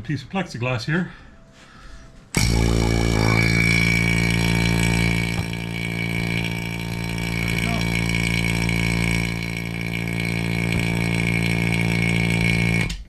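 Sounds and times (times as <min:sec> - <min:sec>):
high whine: 0:02.3 - 0:13.0
vacuum pump motor hum: 0:02.4 - 0:13.0.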